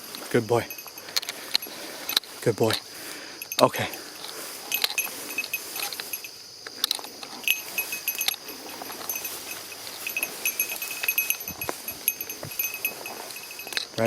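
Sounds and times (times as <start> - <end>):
small collar bell jingling: 0.0 - 14.0.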